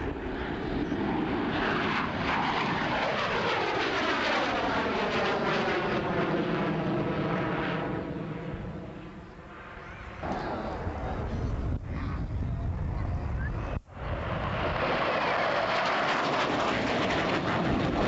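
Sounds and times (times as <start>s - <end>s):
jet fighter flying past: 0.0s - 18.0s.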